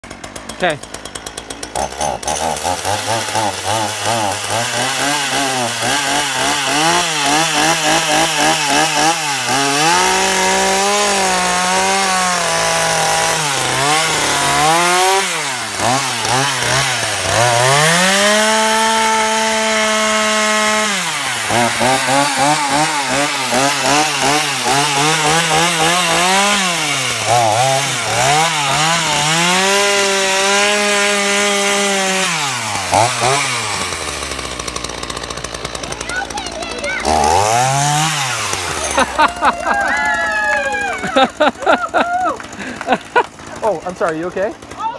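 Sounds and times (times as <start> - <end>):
chainsaw cutting pumpkin: 0.0 - 44.9.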